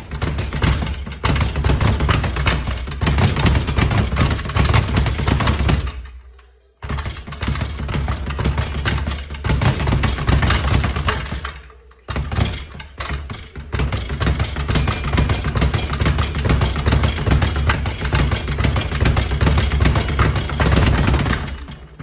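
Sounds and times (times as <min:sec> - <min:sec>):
speed bag rattling: 0:00.0 - 0:06.2, 0:06.8 - 0:22.0.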